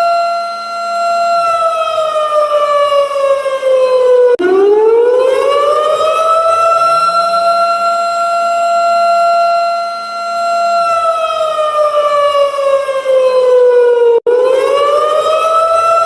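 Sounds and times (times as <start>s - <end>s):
warning siren: 0.0s - 16.0s.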